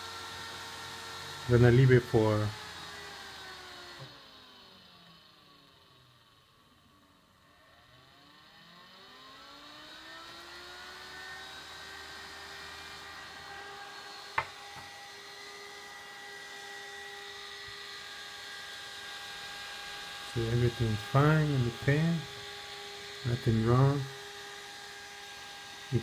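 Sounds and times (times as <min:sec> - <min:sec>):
fan whine spinning up: 0:00.0 - 0:26.0.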